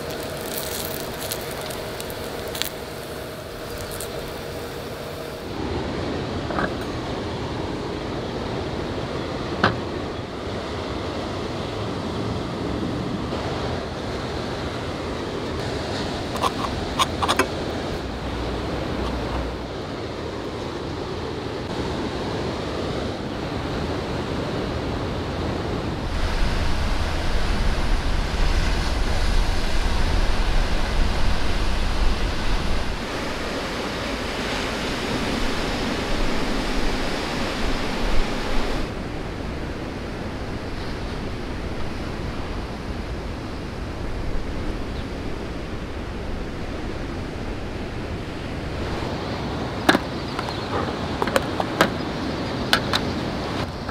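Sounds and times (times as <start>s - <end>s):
sea waves on shore: 0.0s - 53.9s
wind buffeting microphone: 0.0s - 53.9s.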